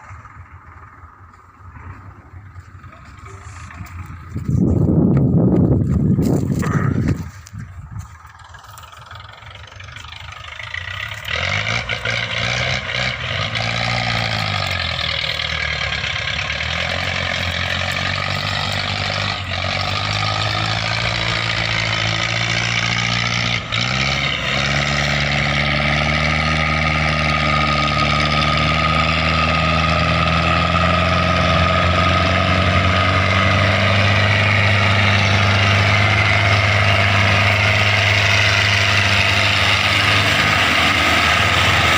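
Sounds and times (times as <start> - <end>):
tractor diesel engine starting: 0.0 - 41.9.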